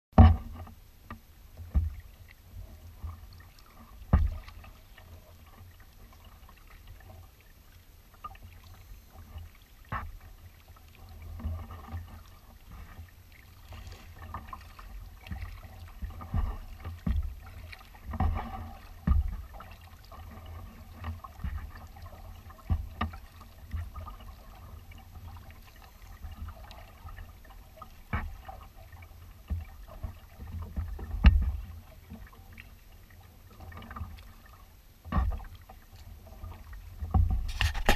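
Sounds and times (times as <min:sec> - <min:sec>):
water splashing against kayak: 0:00.2 - 0:37.9.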